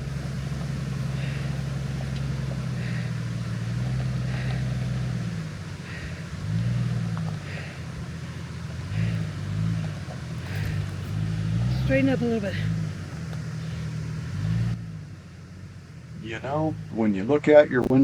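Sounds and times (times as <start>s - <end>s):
car engine running at low speed: 0.0s - 18.0s.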